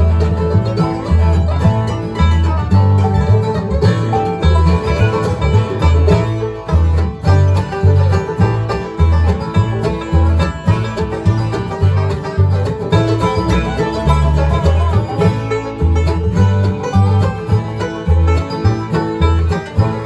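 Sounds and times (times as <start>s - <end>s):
banjo picking: 0.0s - 20.0s
bluegrass band playing: 0.0s - 20.0s.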